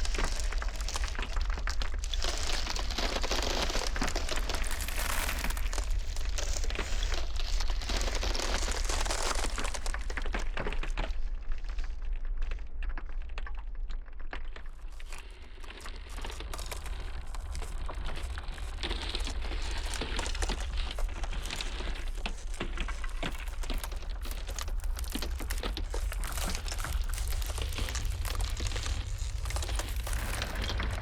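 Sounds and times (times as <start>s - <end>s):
low rumble of blizzard wind: 0.0s - 12.8s, 14.7s - 31.0s
ice crackling and popping: 0.0s - 31.0s.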